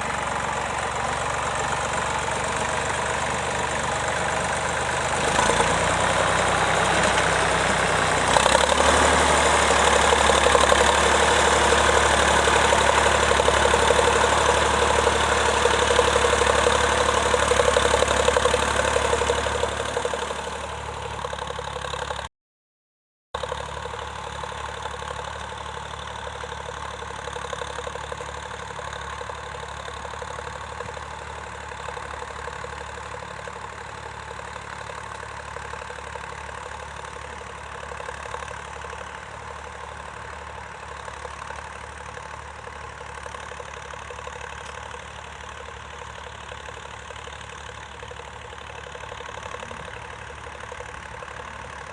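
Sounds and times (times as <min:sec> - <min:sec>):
tractor engine running: 0:00.0 - 0:22.3, 0:23.4 - 0:51.9.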